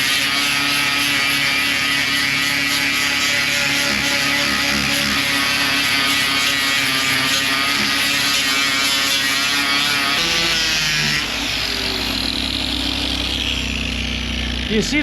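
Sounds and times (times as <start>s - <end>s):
power grinder whining: 0.0s - 15.0s.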